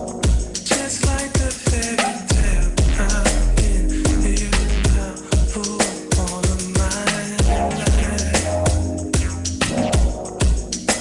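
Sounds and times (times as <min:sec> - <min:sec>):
dance music with drum beat: 0:00.0 - 0:11.0.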